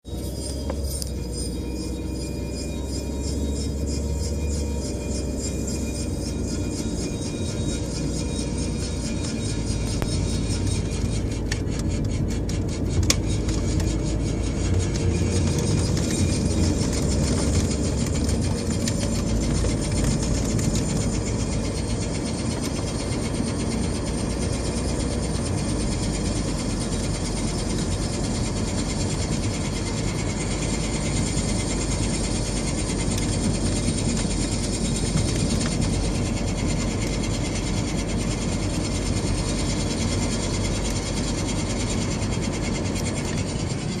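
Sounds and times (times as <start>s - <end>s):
car engine mechanical clatter: 0.0s - 44.0s.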